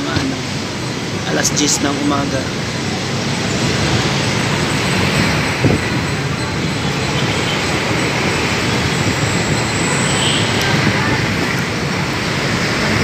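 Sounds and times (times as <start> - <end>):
light-rail train rumbling: 0.0 - 13.0.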